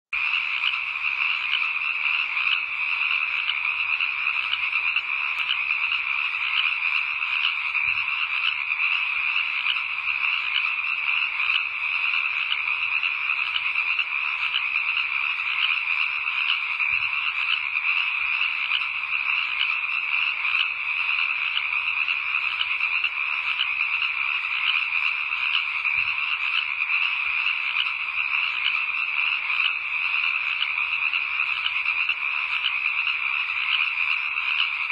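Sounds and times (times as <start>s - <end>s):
frogs calling at night: 0.1s - 34.9s.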